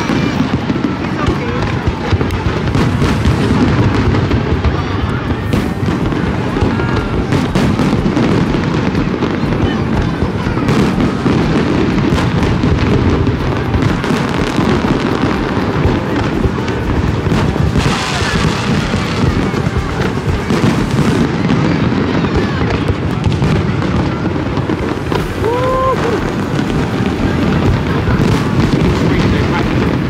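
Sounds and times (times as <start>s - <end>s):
fireworks booming: 0.0s - 30.0s
fireworks cracking: 0.0s - 30.0s.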